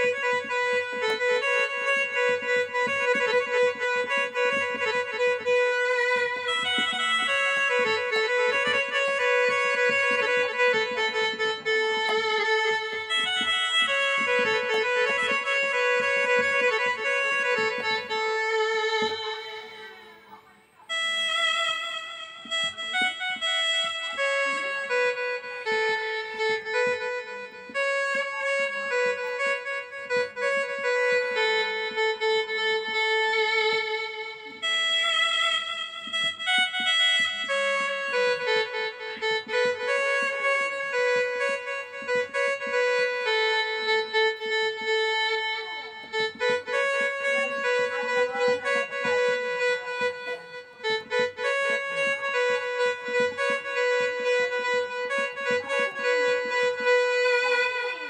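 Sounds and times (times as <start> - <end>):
keyboard melody: 0.0 - 58.0.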